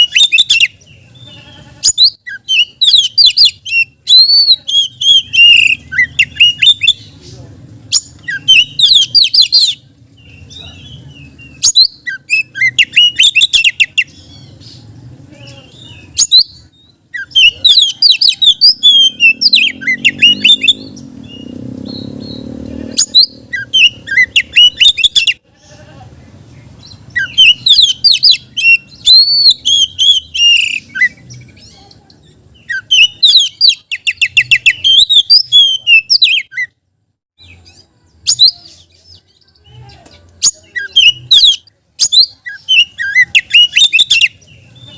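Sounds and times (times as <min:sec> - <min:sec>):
bird singing whistles and trills: 0:00.0 - 0:00.8, 0:01.9 - 0:07.1, 0:07.9 - 0:14.8, 0:15.7 - 0:25.4, 0:26.8 - 0:31.7, 0:32.6 - 0:36.8, 0:37.4 - 0:39.6, 0:40.4 - 0:44.9.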